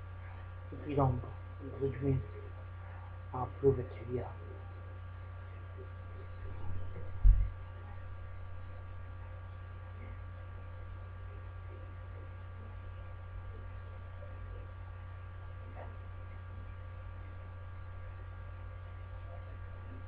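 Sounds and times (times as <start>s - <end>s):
electrical mains hum: 0.0s - 20.0s
faint steady whine: 0.0s - 20.0s.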